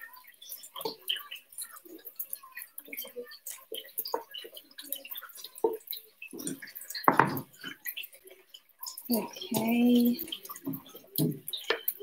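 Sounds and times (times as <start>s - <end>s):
small crackles and soft taps: 0.0s - 12.0s.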